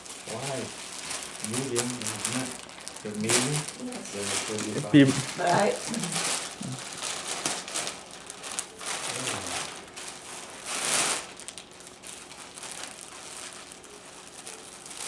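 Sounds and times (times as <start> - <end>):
gift packaging crinkling: 0.0 - 15.0.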